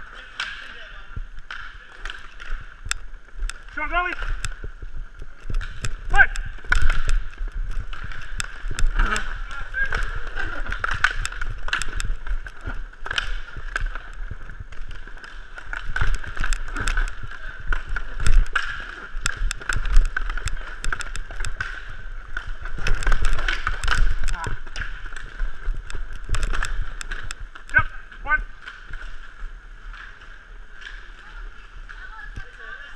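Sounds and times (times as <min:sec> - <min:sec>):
hockey sticks and puck clacking: 0:00.0 - 0:32.9
skate wheels rolling: 0:00.0 - 0:32.9.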